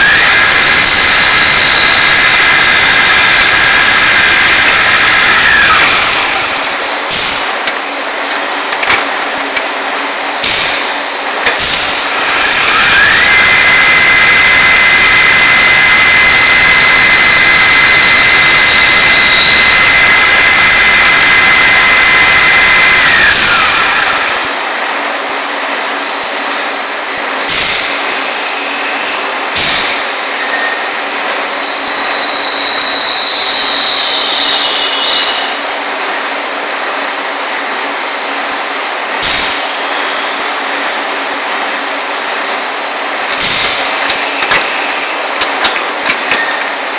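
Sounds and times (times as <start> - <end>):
high machine whine: 0.0 - 46.9
lathe machining noise: 0.0 - 46.9.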